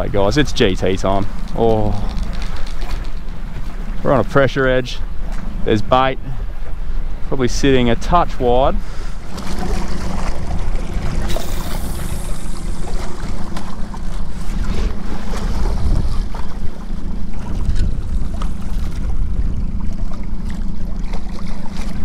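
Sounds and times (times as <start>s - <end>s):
wind buffeting microphone: 0.0s - 7.3s, 8.6s - 22.0s
boat engine running: 0.0s - 22.0s
water washing against hull: 0.0s - 22.0s.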